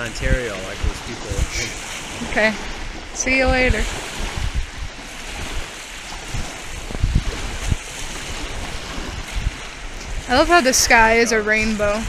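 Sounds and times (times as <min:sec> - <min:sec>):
small lake waves: 0:00.0 - 0:12.0
wind gusting across microphone: 0:00.0 - 0:12.0.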